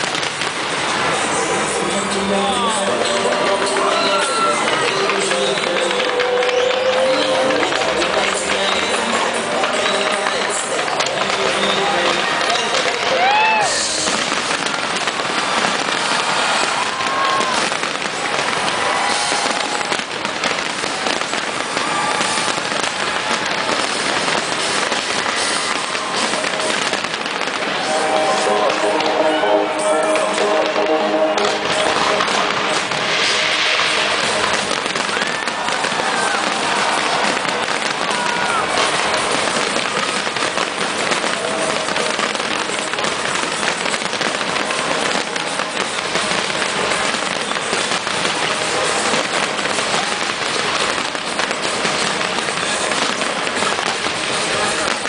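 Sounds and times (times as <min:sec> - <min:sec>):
fireworks crackling: 0:00.0 - 0:55.0
firework whistles: 0:02.6 - 0:09.3, 0:11.8 - 0:55.0.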